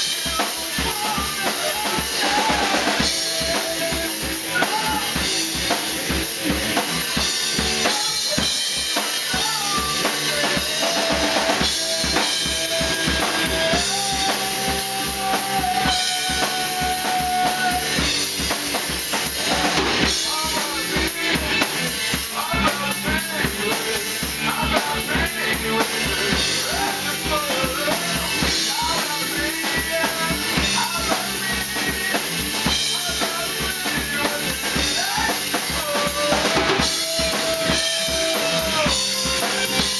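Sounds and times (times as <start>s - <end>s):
bass guitar: 0.0s - 39.9s
drum kit beat: 0.0s - 39.9s
electric guitar: 0.0s - 39.9s
man singing: 0.0s - 39.9s.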